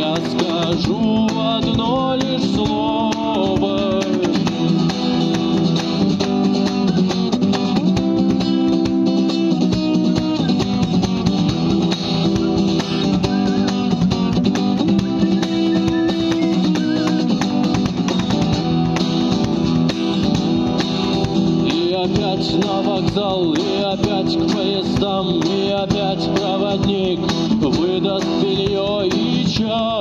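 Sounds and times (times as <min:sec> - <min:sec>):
cajon beat: 0:00.0 - 0:30.0
guitar strumming chords: 0:00.0 - 0:30.0.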